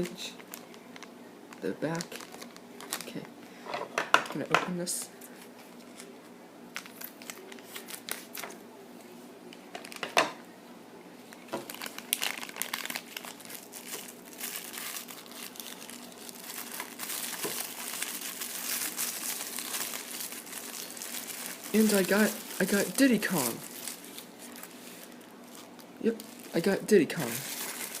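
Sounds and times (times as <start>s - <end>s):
plastic wrapper crinkling and tearing: 0.0s - 3.3s, 5.4s - 8.6s, 9.8s - 10.2s, 11.3s - 28.0s.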